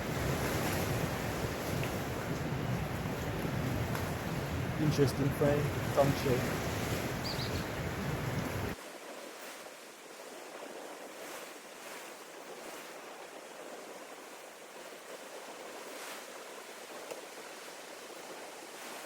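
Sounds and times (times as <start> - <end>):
sea surf washing on shore: 0.0 - 19.0
wind rumble on microphone: 0.0 - 19.0.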